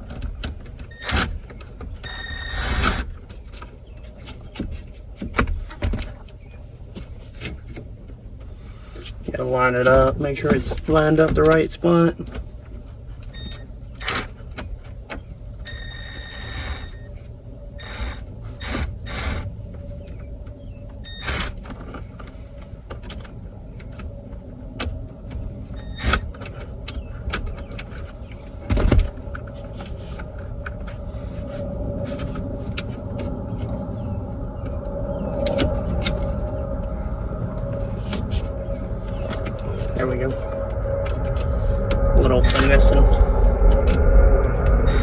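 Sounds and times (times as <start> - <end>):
steady low rumble: 0.0 - 45.0.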